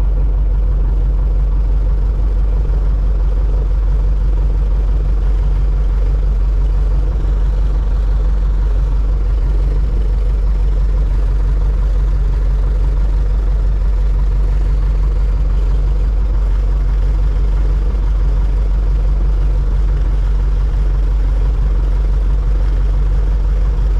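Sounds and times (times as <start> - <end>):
propeller plane engine running: 0.0 - 23.9.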